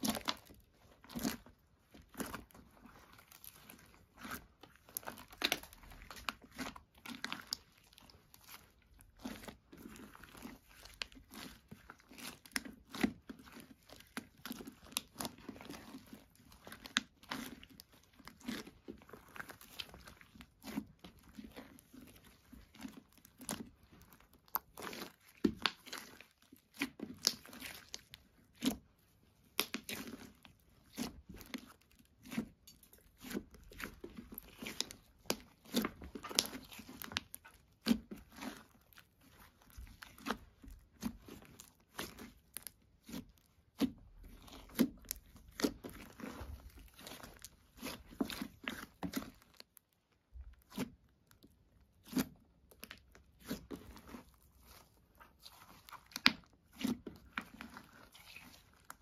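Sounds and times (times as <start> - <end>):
slime crackling and popping: 0.0 - 59.0.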